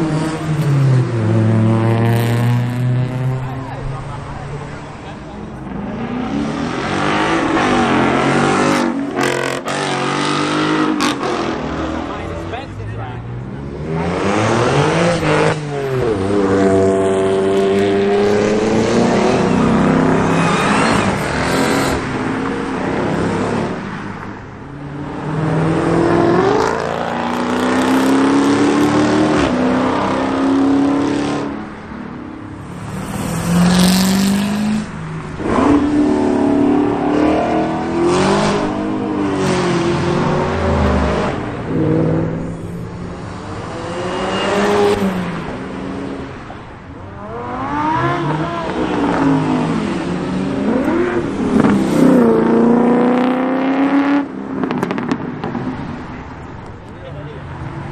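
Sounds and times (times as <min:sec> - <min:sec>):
cars accelerating engines revving: 0:00.0 - 0:56.8.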